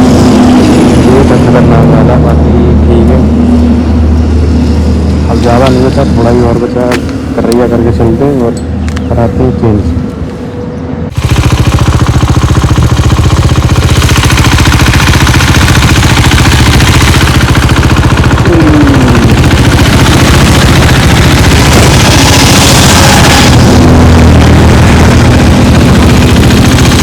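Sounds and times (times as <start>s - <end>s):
motorcycle engine running loudly: 0.0s - 9.1s, 11.1s - 27.0s.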